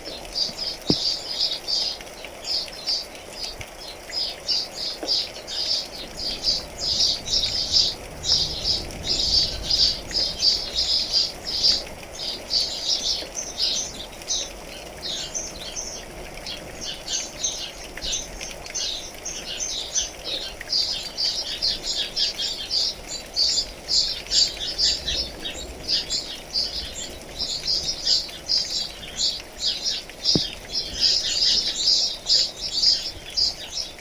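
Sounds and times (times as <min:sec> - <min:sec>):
rain pattering faintly: 0:00.0 - 0:34.0
songbirds chirping: 0:00.0 - 0:34.0.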